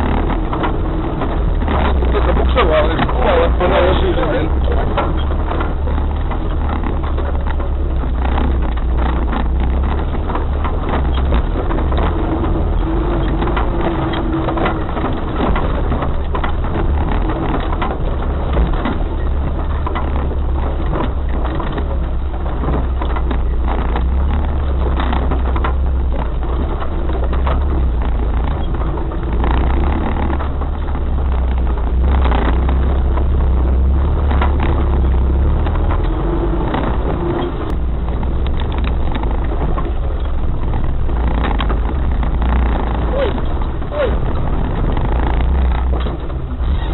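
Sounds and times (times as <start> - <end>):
knocks and rattles: 0.0 - 46.9
vehicle engine rumble: 0.0 - 46.9.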